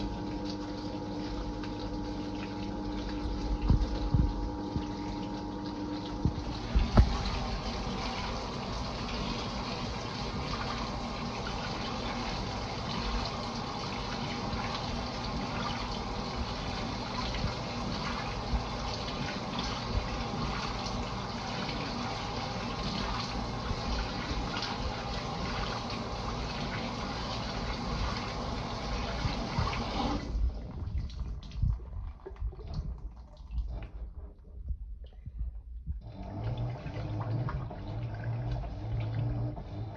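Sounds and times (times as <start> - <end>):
water splashing: 0.0 - 35.6
washing machine filling with water: 0.0 - 39.9.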